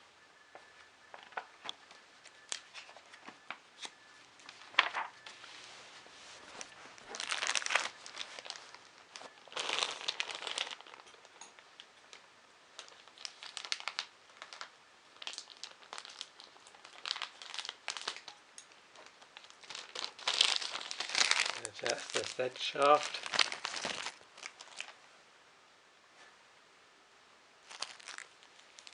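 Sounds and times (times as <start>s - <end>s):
plastic packaging crinkling: 1.1s - 25.0s, 27.6s - 28.9s.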